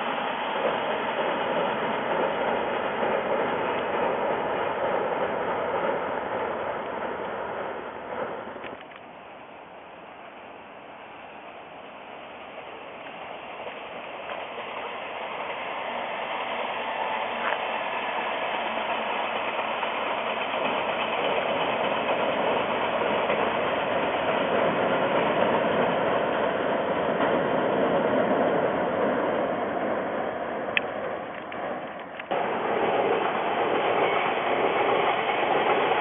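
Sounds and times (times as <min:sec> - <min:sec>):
electric train approaching: 0:00.0 - 0:36.0.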